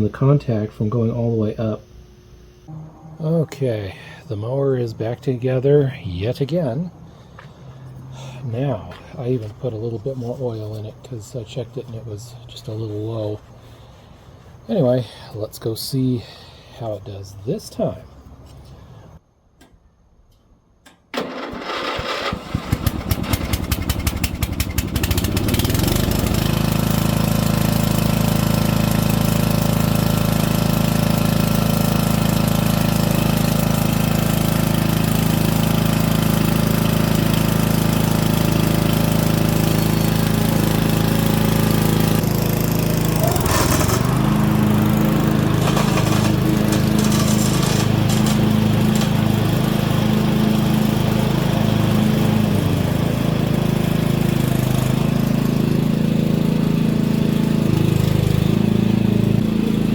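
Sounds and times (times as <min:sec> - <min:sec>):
riding lawn mower engine: 0:02.7 - 0:19.2, 0:21.2 - 0:59.9.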